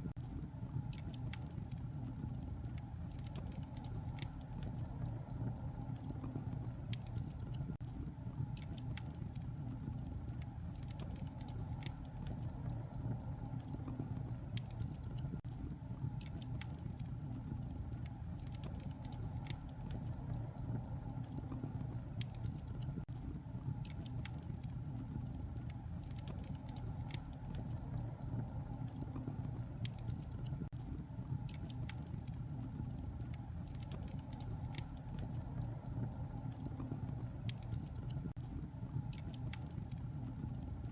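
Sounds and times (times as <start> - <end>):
fire crackling and popping: 0.0 - 40.9
fire low rumble: 0.0 - 40.9.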